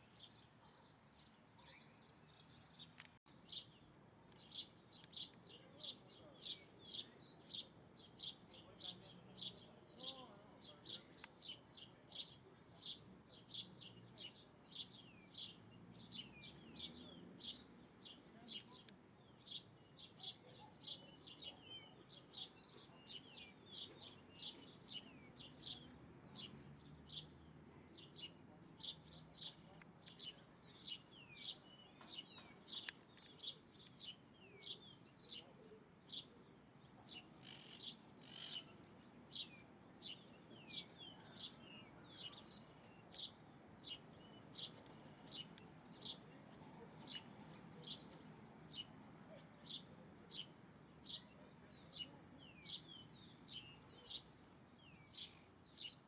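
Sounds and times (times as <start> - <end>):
small bird chirping: 0.0 - 36.4, 37.0 - 56.0.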